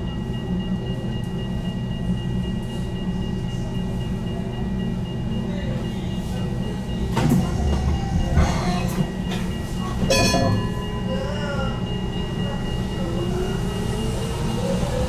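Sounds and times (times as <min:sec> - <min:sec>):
tram rumbling on track: 0:00.0 - 0:15.0.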